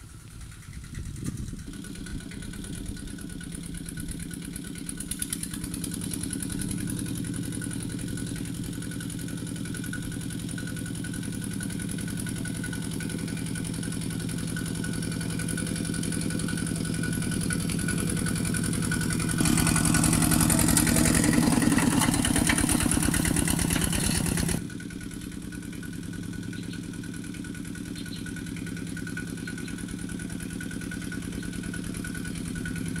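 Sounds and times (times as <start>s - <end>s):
diesel tractor engine running: 0.0s - 33.0s.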